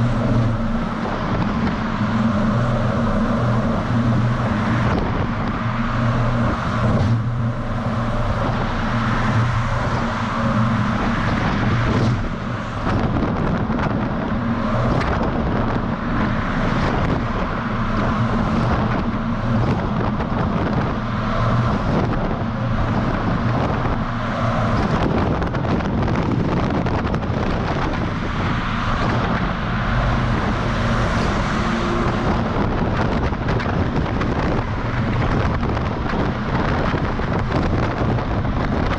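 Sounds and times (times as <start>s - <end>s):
road and wind noise: 0.0s - 38.9s
truck diesel engine drone: 0.0s - 38.9s.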